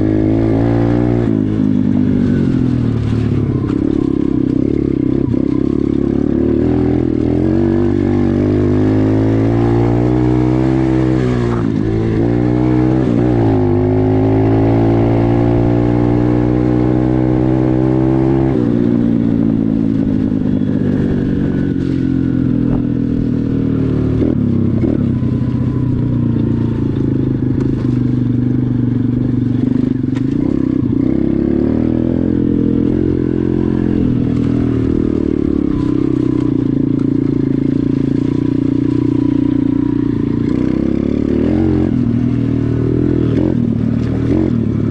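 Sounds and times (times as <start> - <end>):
dirt bike engine revving: 0.0 - 28.0, 28.6 - 44.9.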